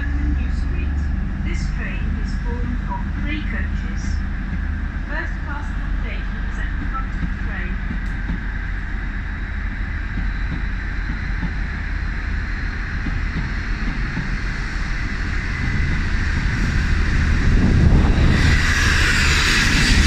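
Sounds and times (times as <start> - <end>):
diesel train engine rumbling: 0.0 - 20.0.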